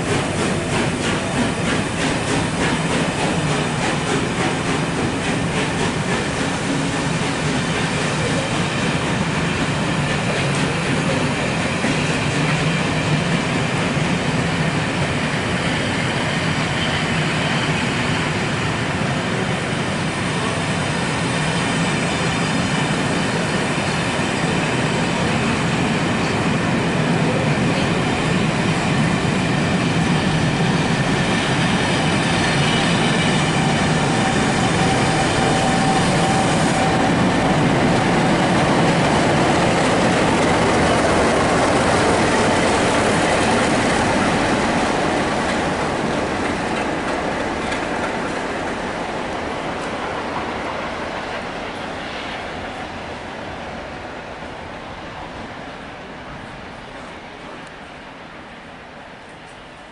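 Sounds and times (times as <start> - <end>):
diesel locomotive: 0.0 - 59.9
train wheels clickety-clack on rail: 0.0 - 59.9.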